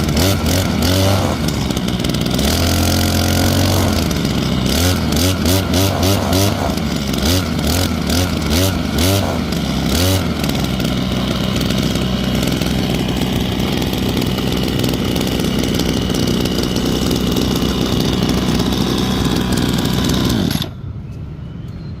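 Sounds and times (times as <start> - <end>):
brush cutter engine revving: 0.0 - 20.9.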